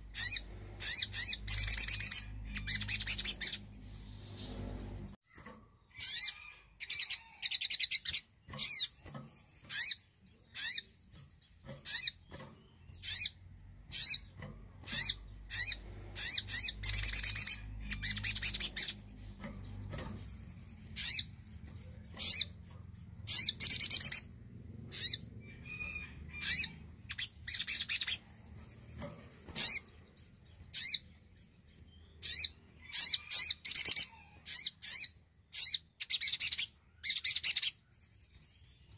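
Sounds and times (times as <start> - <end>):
bird chirping: 0.0 - 38.9
bird rattling trills: 0.0 - 38.9.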